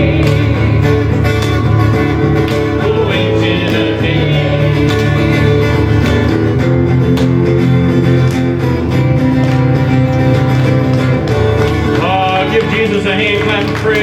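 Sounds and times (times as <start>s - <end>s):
band playing worship music: 0.0s - 14.0s.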